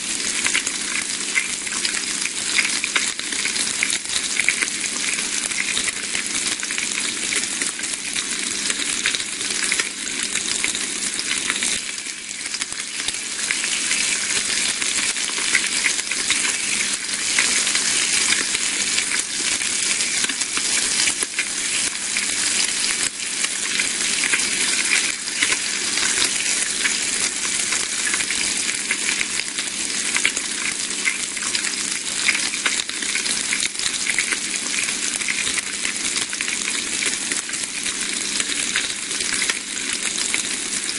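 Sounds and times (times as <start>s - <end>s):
bacon sizzling in a pan: 0.0s - 40.9s.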